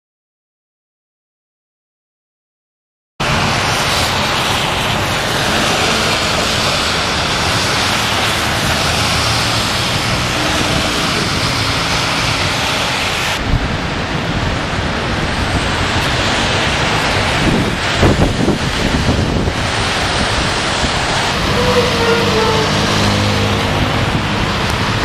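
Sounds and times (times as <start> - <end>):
road traffic rushing: 3.2 - 25.0
wind buffeting microphone: 3.2 - 25.0.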